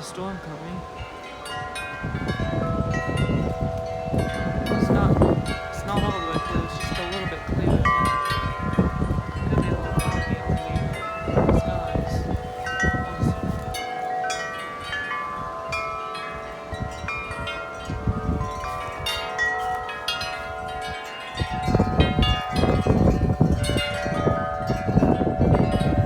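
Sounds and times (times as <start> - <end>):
tubular wind chimes ringing: 0.0 - 26.0
wind gusts rumbling: 0.0 - 26.0.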